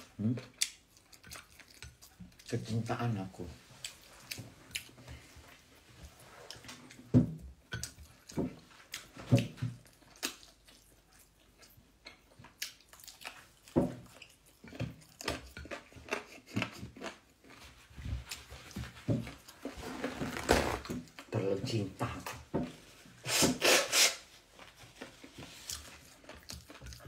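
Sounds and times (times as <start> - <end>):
person chewing: 0.0 - 20.3, 23.3 - 27.0.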